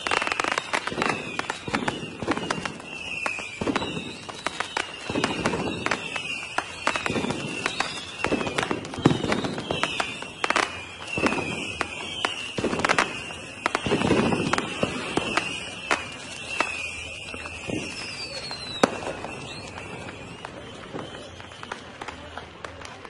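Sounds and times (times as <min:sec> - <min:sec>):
falling whistle: 0:00.0 - 0:21.9
high whistling tone: 0:00.0 - 0:21.9
fireworks bangs and crackles: 0:00.0 - 0:23.0
fireworks booms: 0:00.0 - 0:23.0.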